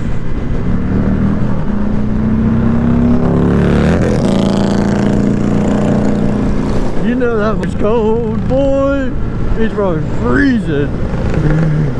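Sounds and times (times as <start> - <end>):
road and wind noise: 0.0 - 11.9.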